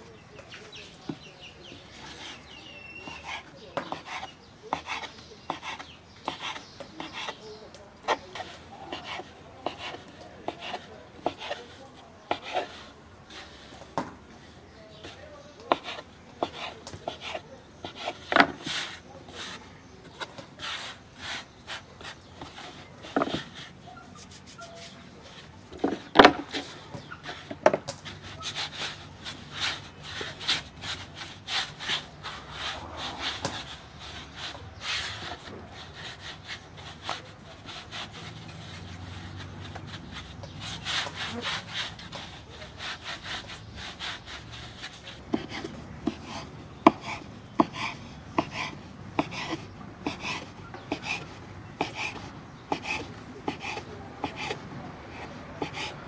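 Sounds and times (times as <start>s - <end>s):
hands rolling dough on board: 0.0s - 56.0s.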